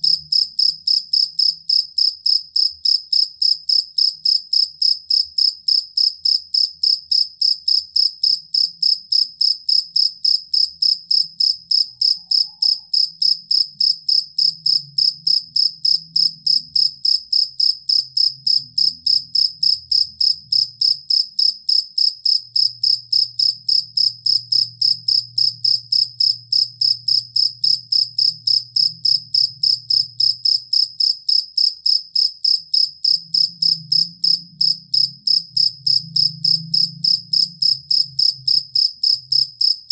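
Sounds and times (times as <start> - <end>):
field cricket chirping: 0.0 - 39.9.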